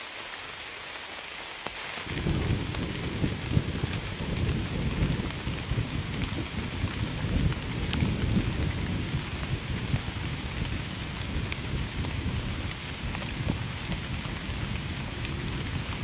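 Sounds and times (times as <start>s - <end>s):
steady rain falling: 0.0s - 16.0s
deep continuous rumble: 2.1s - 16.0s.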